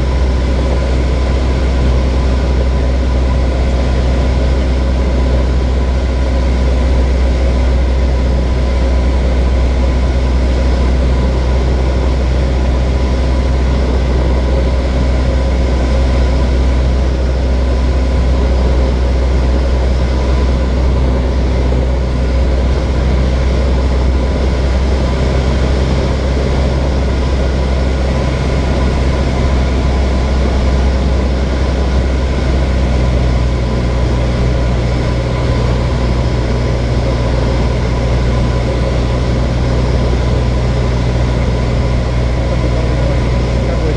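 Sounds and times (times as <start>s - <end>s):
propeller plane engine drone: 0.0s - 43.9s.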